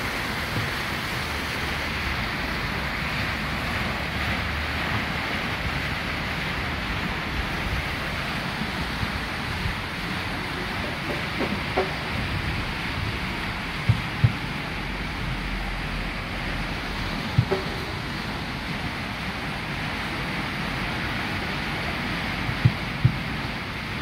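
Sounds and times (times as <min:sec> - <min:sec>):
water rushing down stone steps: 0:00.0 - 0:24.0.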